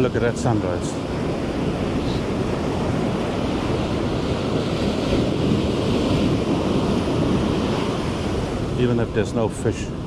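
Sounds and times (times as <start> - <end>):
ocean surf breaking on beach: 0.0 - 10.0.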